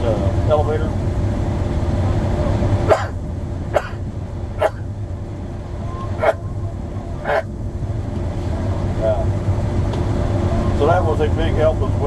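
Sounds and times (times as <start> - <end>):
combine engine droning: 0.0 - 12.0.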